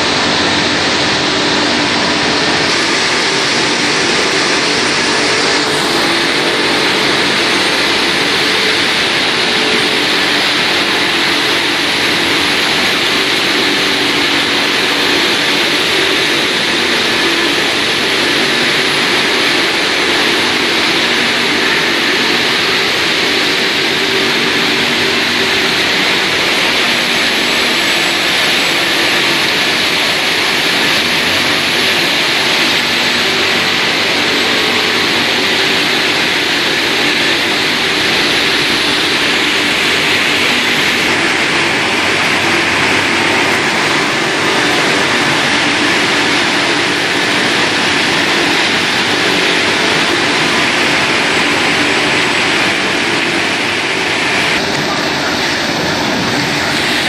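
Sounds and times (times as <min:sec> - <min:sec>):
faint machine hum: 0:00.0 - 0:57.0
rushing hiss of conveyors: 0:00.0 - 0:57.0.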